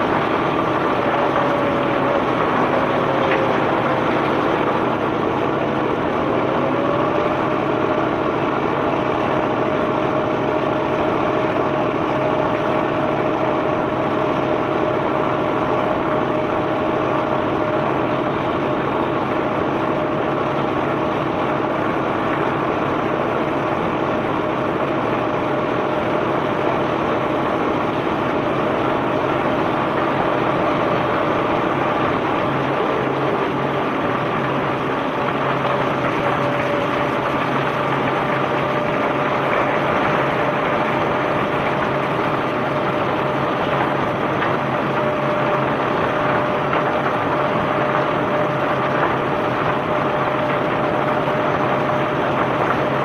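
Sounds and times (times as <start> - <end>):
continuous rushing noise: 0.0 - 53.0
machinery engine hum: 0.0 - 53.0.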